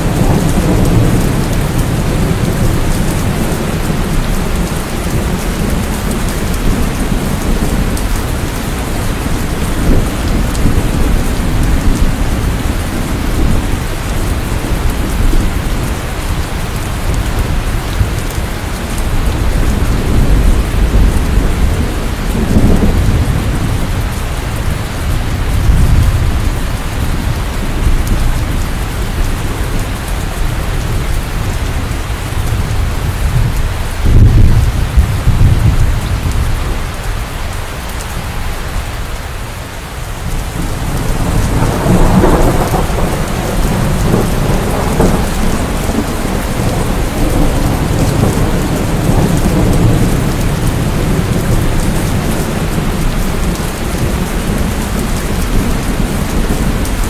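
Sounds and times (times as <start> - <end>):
heavy rain: 0.0 - 57.0
rolling thunder rumble: 0.0 - 57.0.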